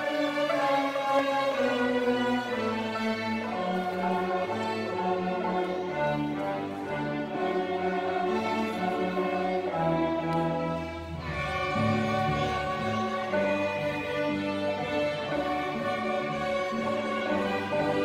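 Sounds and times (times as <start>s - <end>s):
string orchestra playing chords: 0.0s - 18.0s.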